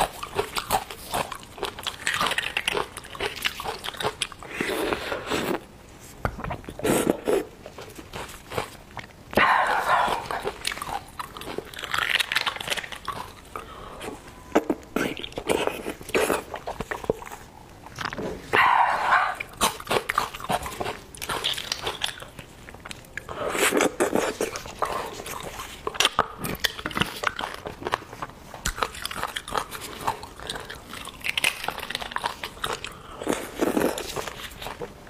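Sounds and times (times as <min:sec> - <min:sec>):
mouth clicks and chewing: 0:00.0 - 0:05.6, 0:06.2 - 0:18.2, 0:19.0 - 0:35.0.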